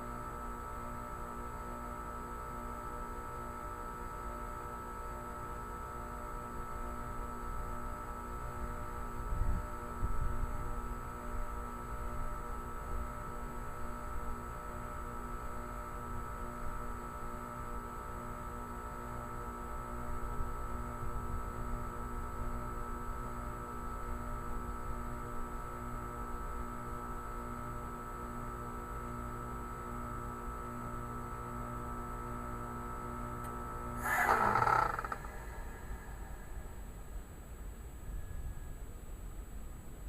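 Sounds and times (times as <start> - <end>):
heat pump humming: 0.0 - 40.0.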